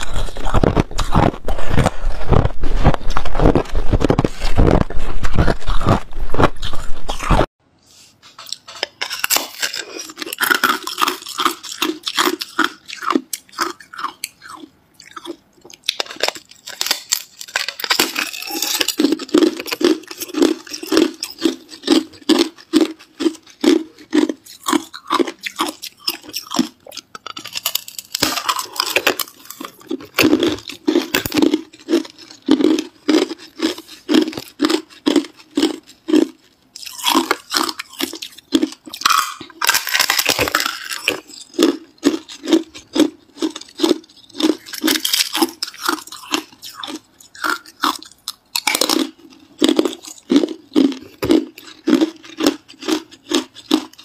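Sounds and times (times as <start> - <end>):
ice crunching between teeth: 0.0 - 7.5, 8.4 - 54.0.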